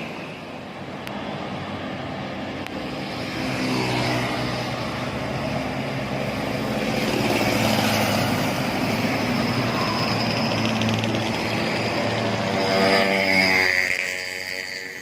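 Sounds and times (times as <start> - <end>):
diesel engine drone: 0.0 - 15.0
tyre and road noise: 0.0 - 15.0.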